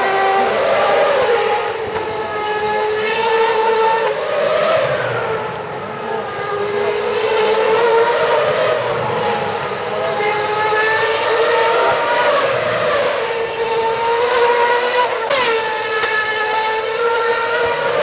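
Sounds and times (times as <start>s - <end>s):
racing car engines screaming: 0.0s - 18.0s.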